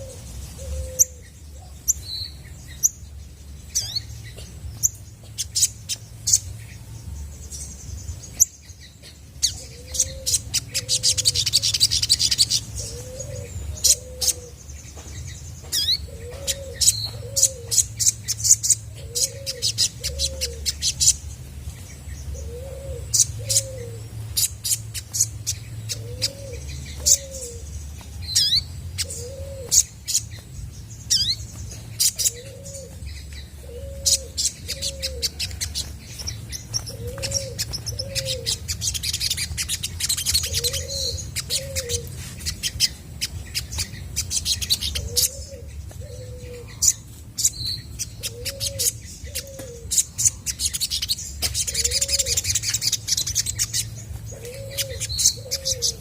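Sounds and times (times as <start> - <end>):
bird singing high chirps: 0.0 - 56.0
steady low hum: 0.0 - 56.0.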